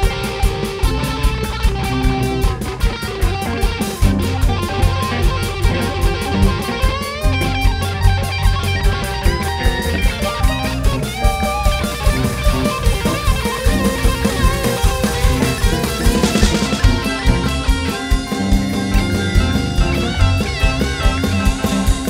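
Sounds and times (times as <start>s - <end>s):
bass guitar: 0.0s - 22.0s
drums playing steady beat: 0.0s - 22.0s
electric guitar bending notes: 0.0s - 22.0s.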